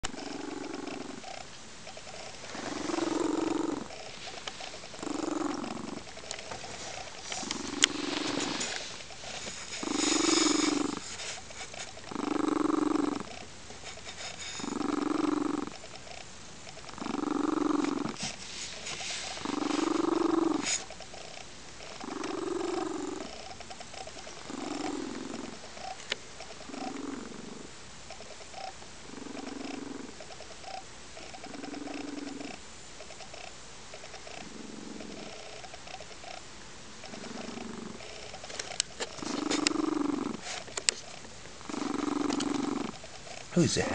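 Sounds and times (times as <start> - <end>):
cat purring loudly: 0.1 - 16.2, 16.8 - 27.7, 28.4 - 43.9.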